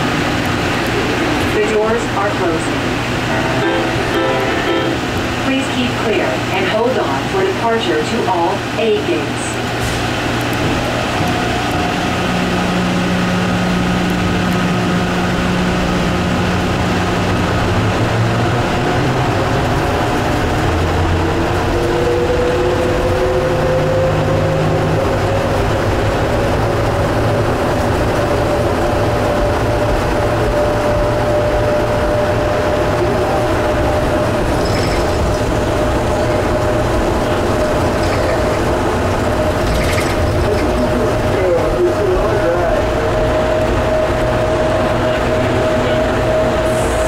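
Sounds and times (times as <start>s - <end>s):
train rumble and hum: 0.0s - 47.0s.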